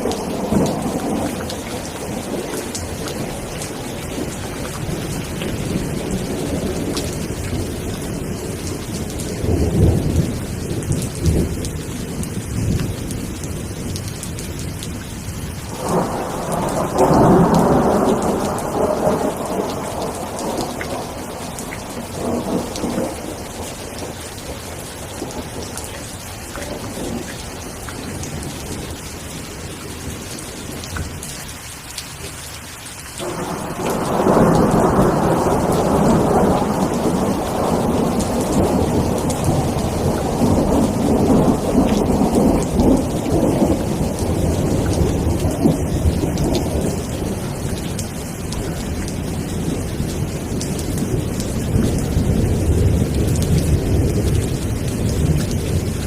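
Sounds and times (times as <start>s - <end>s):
rolling thunder: 0.0s - 31.2s, 33.2s - 56.0s
steady rain falling: 0.0s - 56.0s.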